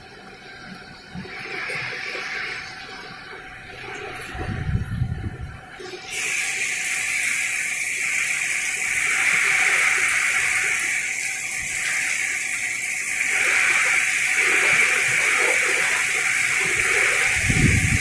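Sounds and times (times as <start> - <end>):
heavy rain in strong wind: 0.0 - 18.0.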